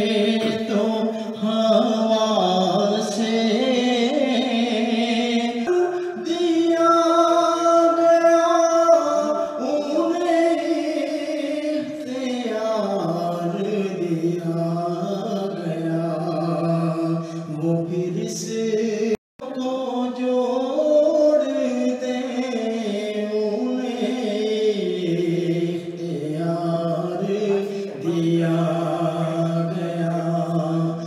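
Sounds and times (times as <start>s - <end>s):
man singing chant-like: 0.0s - 31.0s.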